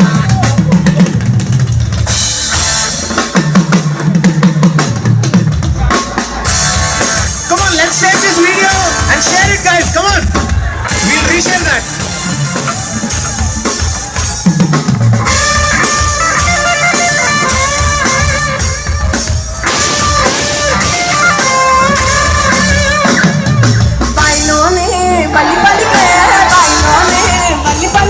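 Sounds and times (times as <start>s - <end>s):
live band playing: 0.0s - 28.0s.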